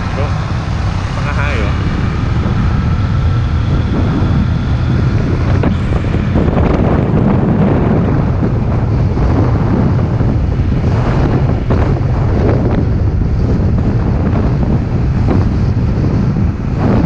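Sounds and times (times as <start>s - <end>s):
motorcycle engine: 0.0s - 17.0s
road noise: 0.0s - 17.0s
wind noise on microphone: 0.0s - 17.0s.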